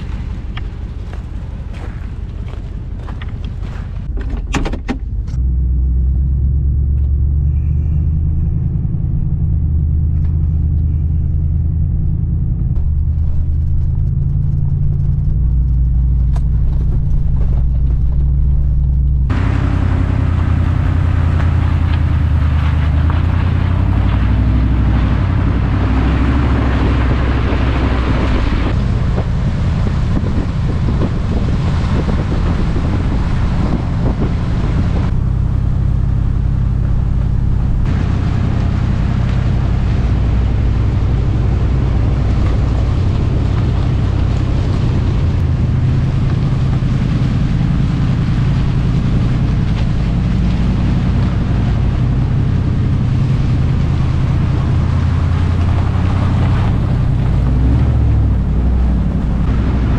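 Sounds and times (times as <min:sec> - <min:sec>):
truck engine and tyres rumbling: 0:00.0 - 0:59.9
wind buffeting microphone: 0:00.0 - 0:59.9.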